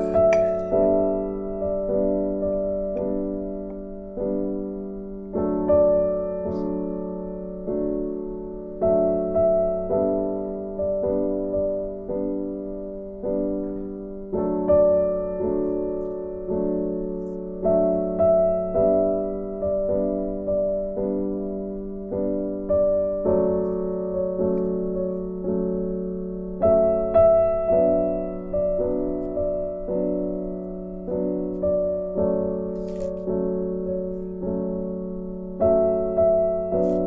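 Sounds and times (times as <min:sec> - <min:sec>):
gentle piano melody: 0:00.0 - 0:37.0.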